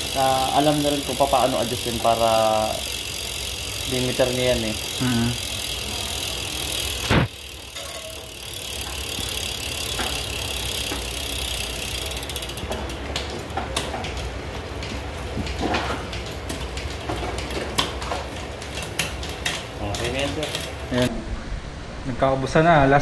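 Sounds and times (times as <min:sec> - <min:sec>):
bicycle chain running over cassette: 0:00.0 - 0:21.1
freewheel ticking rapidly: 0:00.0 - 0:21.1.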